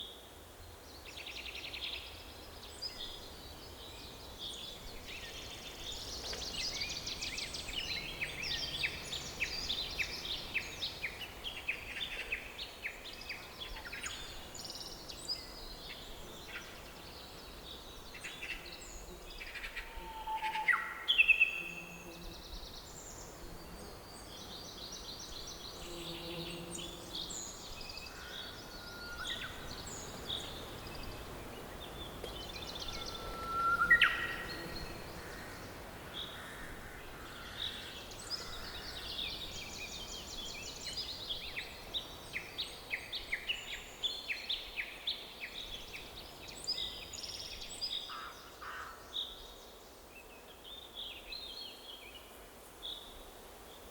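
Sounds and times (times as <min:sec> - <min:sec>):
songbirds singing and calling: 0:00.0 - 0:53.9.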